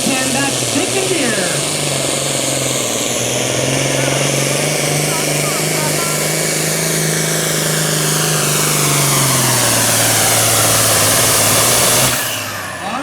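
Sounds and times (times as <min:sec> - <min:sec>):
tractor diesel engine at full throttle: 0:00.0 - 0:13.0.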